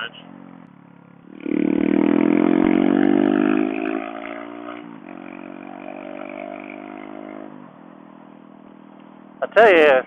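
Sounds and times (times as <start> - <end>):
motorcycle engine accelerating: 0.0 - 9.4.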